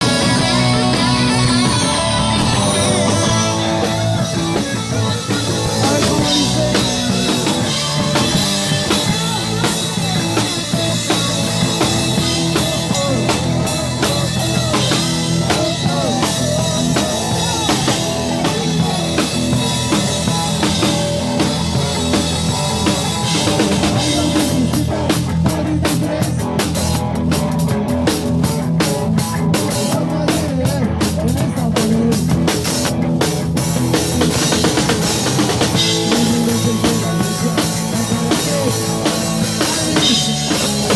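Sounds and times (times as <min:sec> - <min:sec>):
drum and cymbal hits: 0:00.0 - 0:40.9
rock band playing: 0:00.0 - 0:40.9.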